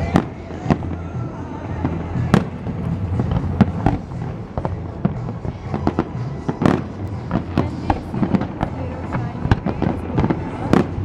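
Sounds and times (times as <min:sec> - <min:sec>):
fireworks bangs and crackles: 0:00.0 - 0:11.0
music with steady bass: 0:00.0 - 0:11.0.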